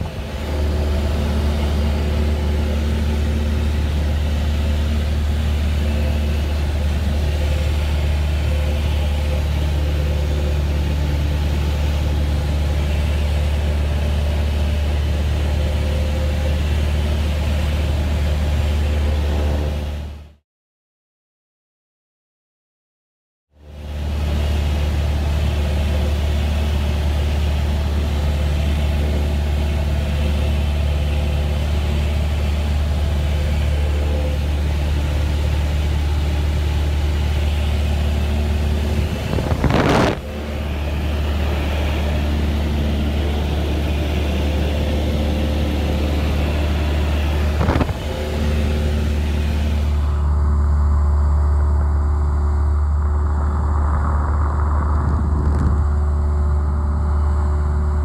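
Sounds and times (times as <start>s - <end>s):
airplane engine droning: 0.0s - 20.4s, 23.6s - 58.0s.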